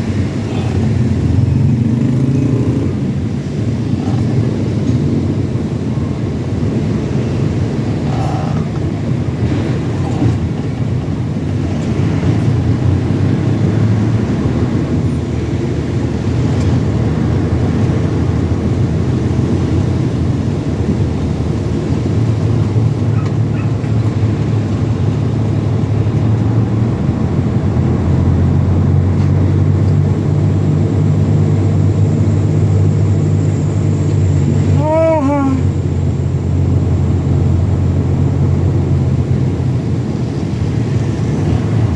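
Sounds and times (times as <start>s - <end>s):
truck engine droning: 0.0s - 41.9s.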